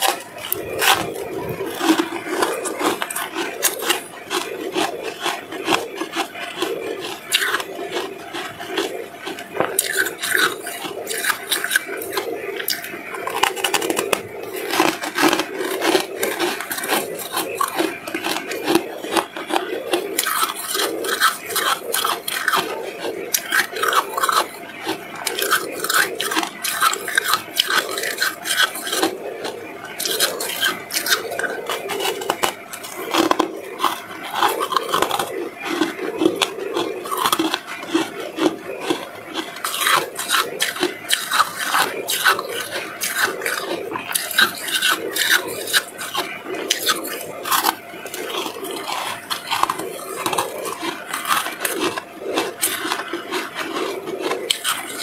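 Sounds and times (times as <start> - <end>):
freezer frost crunching: 0.0 - 55.0.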